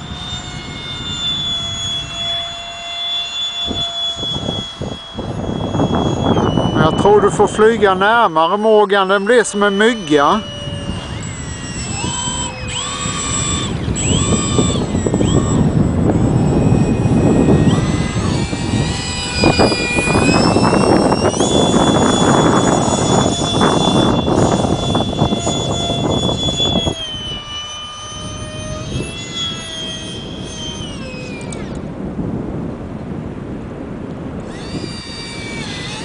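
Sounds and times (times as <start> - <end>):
model jet motor whine: 0.0 - 36.0
rushing airflow: 0.0 - 36.0.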